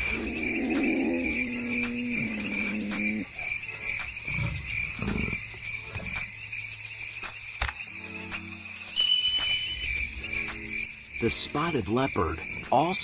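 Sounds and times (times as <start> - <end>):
crickets and insects trilling: 0.0 - 13.0.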